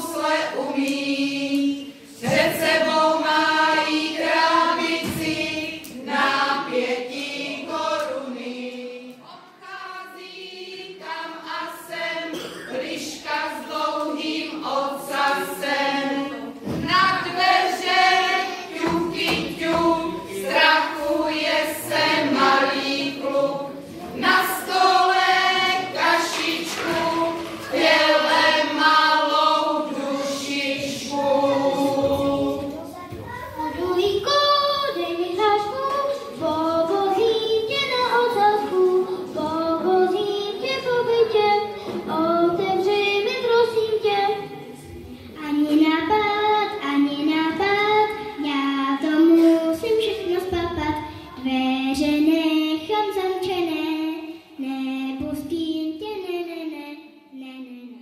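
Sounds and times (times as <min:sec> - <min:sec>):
children singing into microphone: 0:00.0 - 0:58.0.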